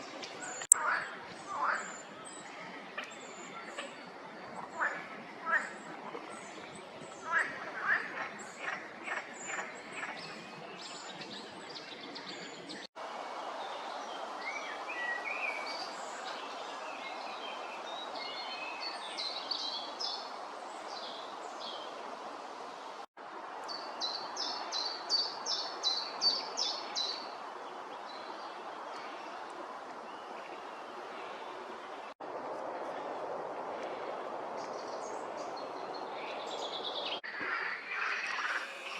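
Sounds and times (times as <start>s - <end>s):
steady outdoor hiss: 0.0s - 38.9s.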